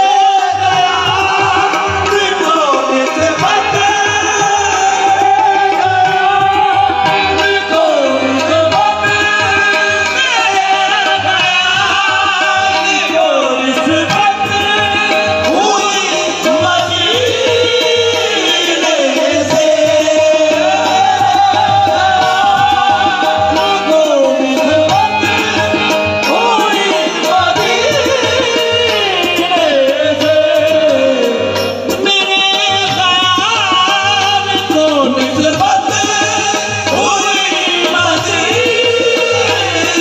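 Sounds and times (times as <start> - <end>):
harmonium chords: 0.0 - 40.0
man singing: 0.0 - 40.0.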